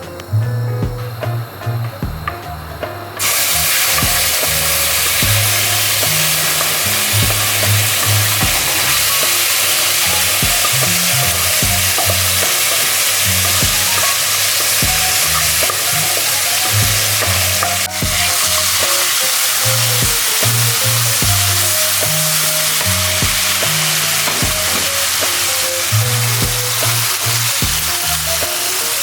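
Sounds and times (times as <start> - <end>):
background music: 0.0 - 29.0
food sizzling in a frying pan: 3.2 - 29.0.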